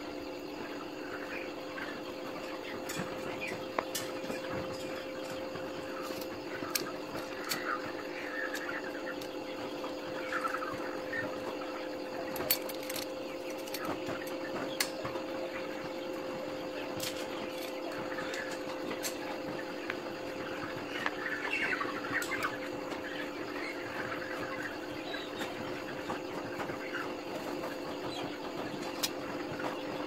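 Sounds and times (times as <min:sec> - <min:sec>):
birds chirping: 0:00.0 - 0:30.0
steady electrical hum: 0:00.0 - 0:30.0.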